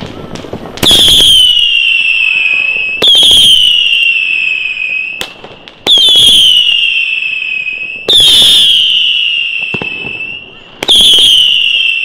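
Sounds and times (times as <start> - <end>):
firework crack: 0.0 - 12.0
firework whistles: 0.0 - 12.0.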